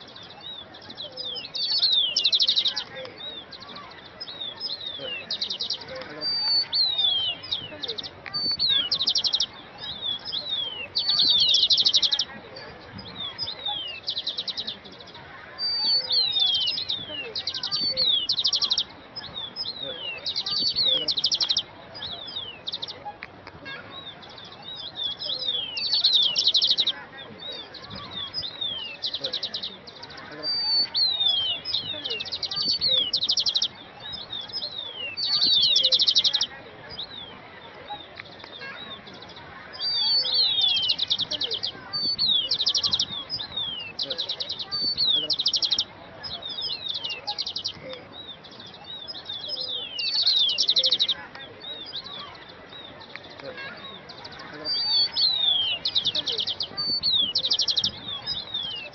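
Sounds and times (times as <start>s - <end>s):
birds whistling descending notes: 0.0s - 12.3s, 24.0s - 58.9s
bird dry trills: 0.0s - 58.9s.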